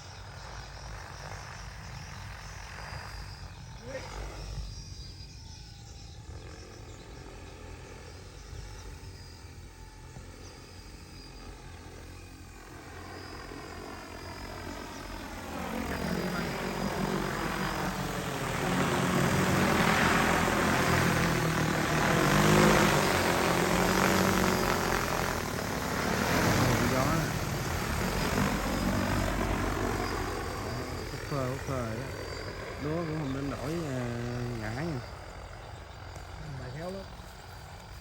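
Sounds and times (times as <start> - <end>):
drone rotors whining: 0.0 - 38.0.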